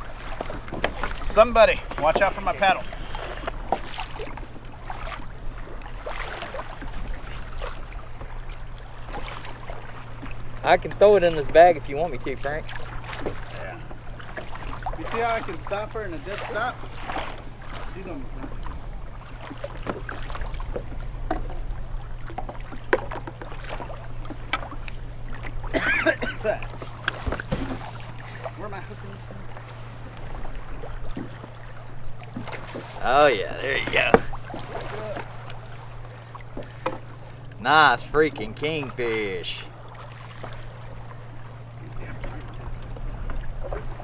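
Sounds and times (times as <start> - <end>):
water splashing against kayak: 0.0 - 44.0.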